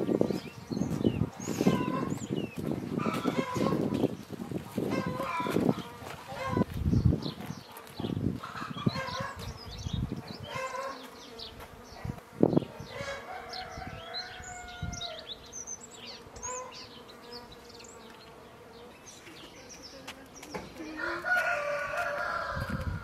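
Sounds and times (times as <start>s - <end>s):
faint insect buzz: 0.0s - 23.0s
songbirds chirping: 0.0s - 23.0s.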